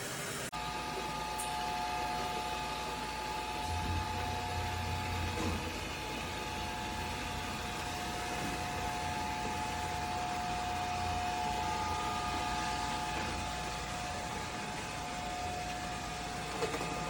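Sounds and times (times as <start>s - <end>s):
robot vacuum whirring: 3.3s - 17.0s.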